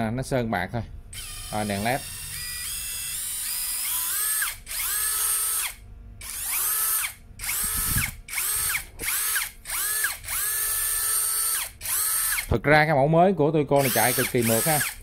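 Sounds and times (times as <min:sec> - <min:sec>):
cordless drill motor whine: 0:01.1 - 0:12.6, 0:13.8 - 0:15.0.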